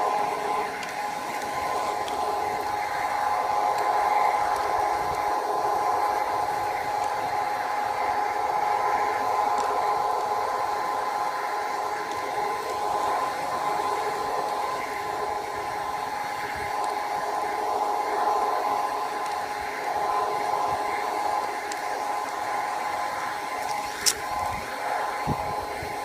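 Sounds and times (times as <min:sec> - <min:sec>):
model train motor whine: 0:00.0 - 0:26.0.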